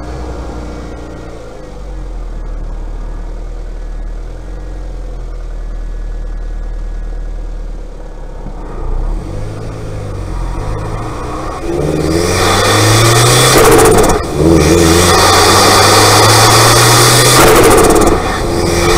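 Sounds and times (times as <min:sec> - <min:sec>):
car engine idling and revving: 0:00.0 - 0:18.9.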